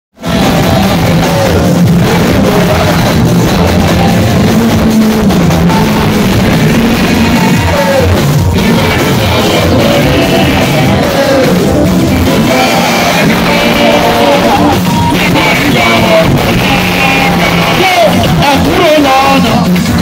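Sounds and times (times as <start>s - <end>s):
band with heavy bass: 0.2s - 20.0s
man singing into microphone: 0.2s - 20.0s.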